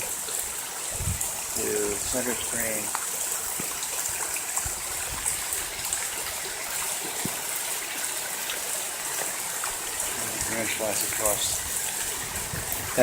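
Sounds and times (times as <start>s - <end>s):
rainwater runoff rushing: 0.0s - 13.0s
small drips and splashes: 0.0s - 13.0s.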